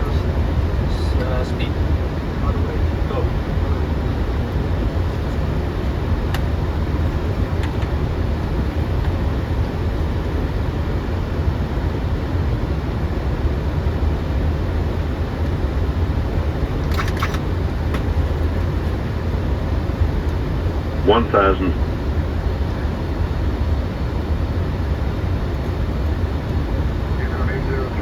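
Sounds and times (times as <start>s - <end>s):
low cockpit rumble: 0.0s - 28.0s.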